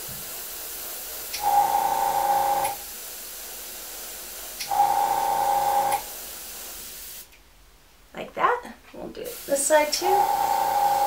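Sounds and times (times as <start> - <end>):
faint steady hiss: 0.0 - 1.6, 2.4 - 4.9, 5.5 - 10.9
airbrush spraying: 0.0 - 7.3, 9.3 - 11.0.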